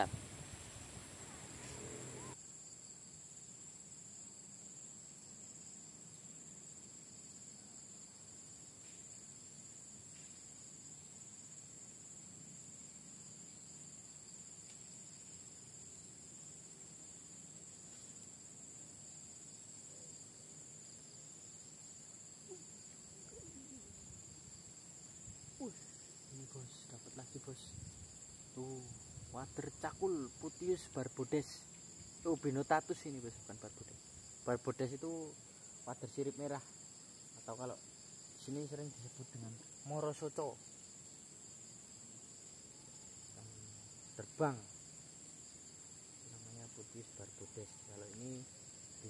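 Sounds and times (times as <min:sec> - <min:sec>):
insects chirring: 0:00.0 - 0:49.0.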